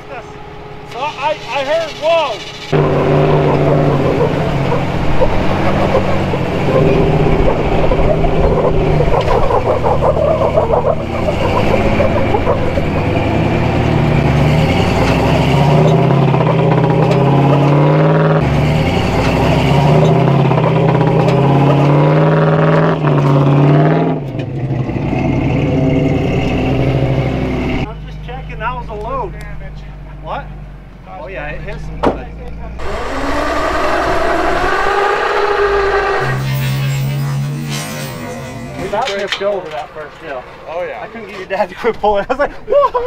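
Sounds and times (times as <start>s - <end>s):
engines labouring under load: 0.0s - 43.0s.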